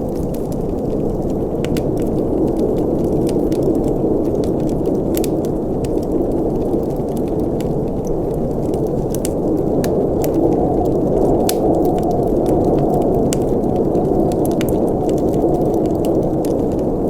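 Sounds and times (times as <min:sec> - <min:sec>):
low rush of flames: 0:00.0 - 0:17.0
wood crackling and popping: 0:00.0 - 0:17.0.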